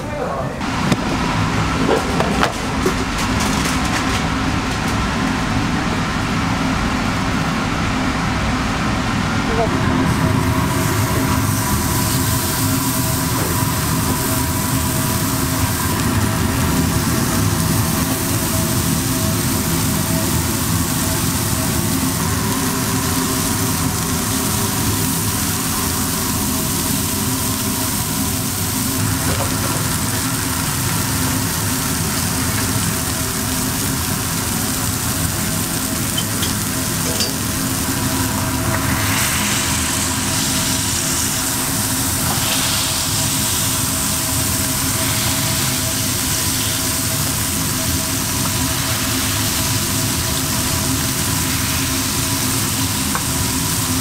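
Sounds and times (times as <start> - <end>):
steady low hum: 0.0 - 54.0
patties sizzling on griddle: 0.6 - 54.0.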